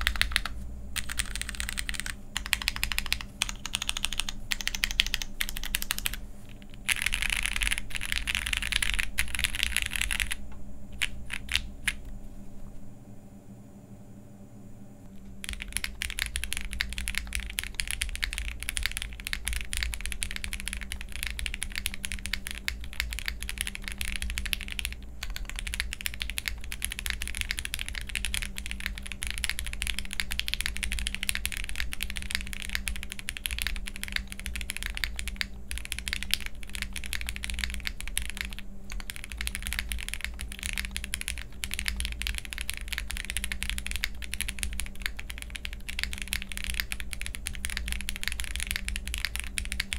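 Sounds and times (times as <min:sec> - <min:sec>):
mechanical keyboard typing: 0:00.0 - 0:10.4, 0:11.0 - 0:12.0, 0:15.2 - 0:49.9.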